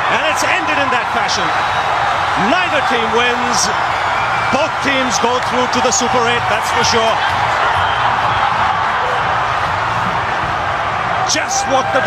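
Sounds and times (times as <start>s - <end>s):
stadium crowd cheering: 0.0s - 12.0s.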